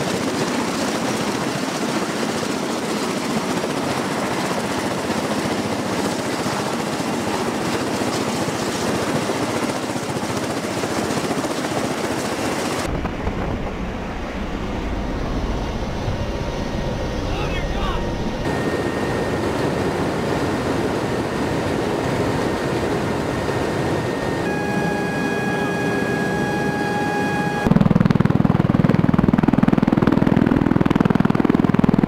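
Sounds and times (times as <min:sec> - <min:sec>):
tiltrotor engine and rotor noise: 0:00.0 - 0:32.0.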